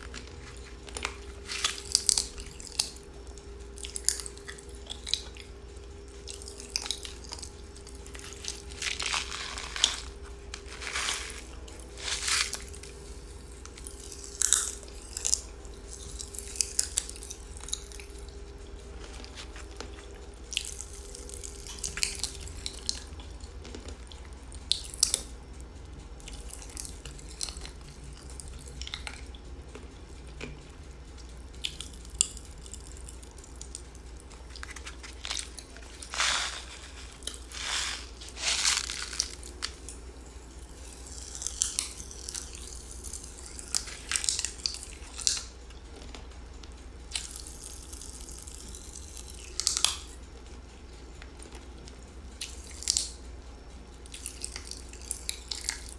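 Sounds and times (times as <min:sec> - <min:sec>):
crunching and chewing: 0:00.0 - 0:25.3, 0:26.2 - 0:30.6, 0:31.2 - 0:46.2, 0:47.1 - 0:53.2, 0:53.9 - 0:55.9.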